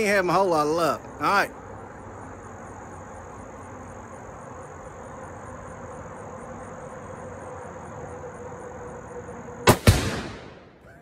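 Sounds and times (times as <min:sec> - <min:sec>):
faint low hum: 0:00.0 - 0:11.0
insects droning: 0:00.0 - 0:11.0.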